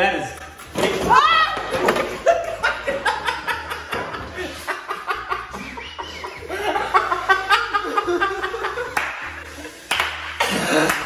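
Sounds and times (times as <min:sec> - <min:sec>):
people laughing hard together: 0:02.0 - 0:11.0.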